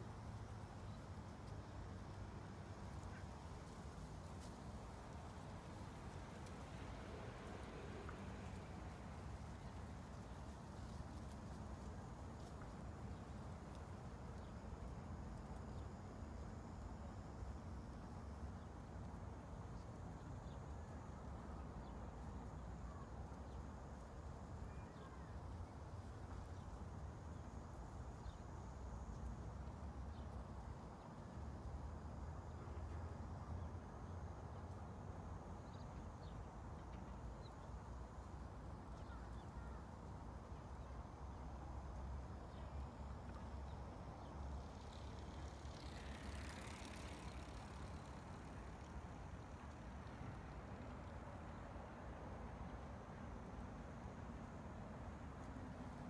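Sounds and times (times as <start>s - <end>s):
faint hiss: 0.0s - 56.0s.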